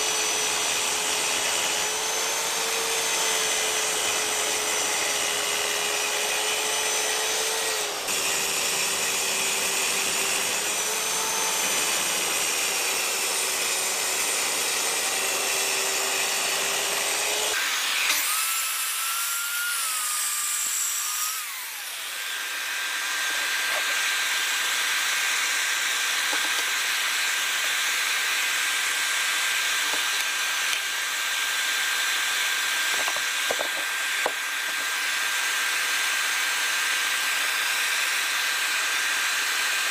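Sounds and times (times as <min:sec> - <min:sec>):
track saw cutting plywood: 0:00.0 - 0:39.9.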